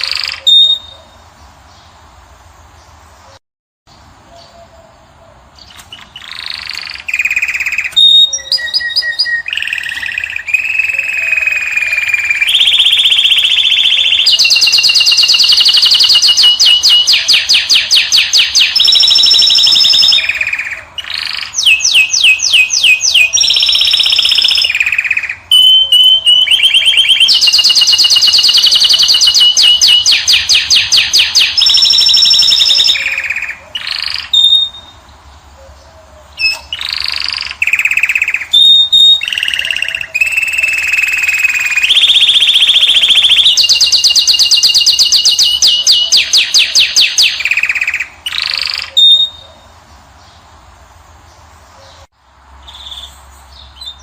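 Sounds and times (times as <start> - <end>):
finch singing trills and whistles: 0.0 - 1.3, 5.6 - 49.7, 51.8 - 54.0.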